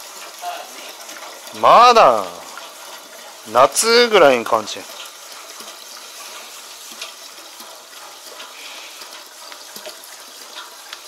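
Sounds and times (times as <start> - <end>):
fuel gushing into plastic can: 0.0 - 11.0.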